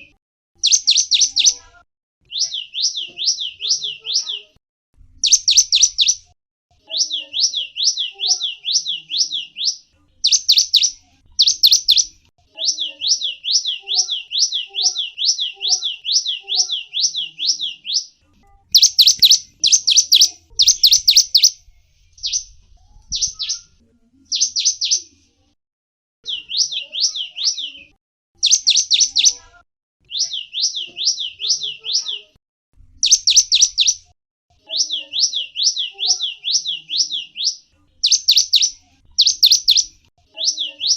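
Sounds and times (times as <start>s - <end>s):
small songbird singing: 0.0s - 25.2s, 26.2s - 32.4s, 33.0s - 34.1s, 34.7s - 40.9s.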